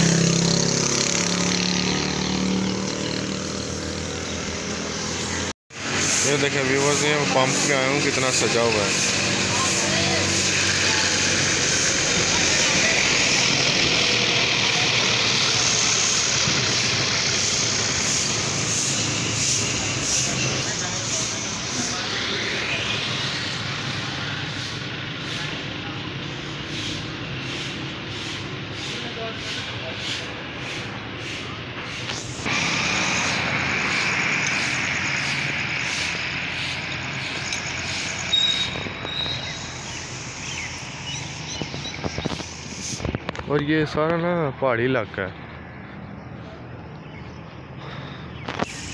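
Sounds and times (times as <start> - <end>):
vehicle engine running: 0.0 - 43.5
road traffic noise: 0.0 - 48.9.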